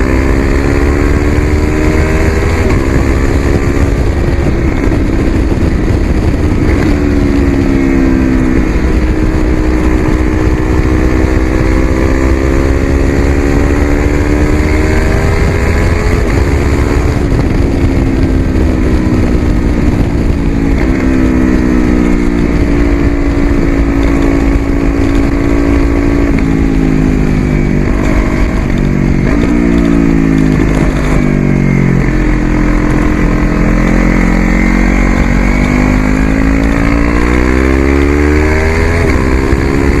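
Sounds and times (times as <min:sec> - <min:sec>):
gear changes: 0:00.0 - 0:40.0
motorcycle engine running: 0:00.0 - 0:40.0.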